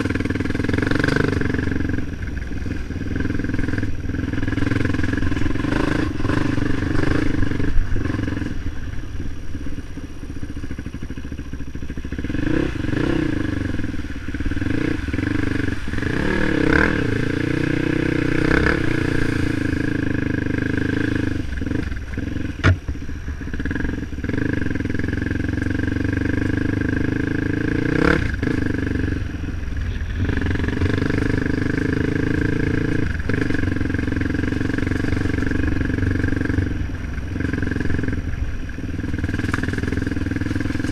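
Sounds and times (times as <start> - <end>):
off-road motorcycle engine: 0.0 - 40.9.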